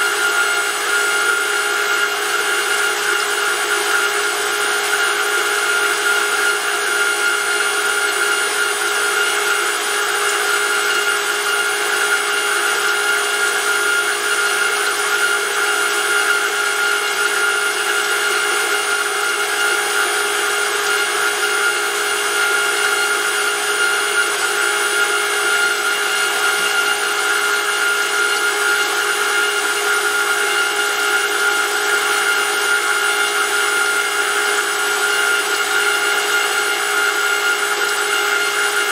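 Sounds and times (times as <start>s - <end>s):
electric motor and pump whine: 0.0s - 38.9s.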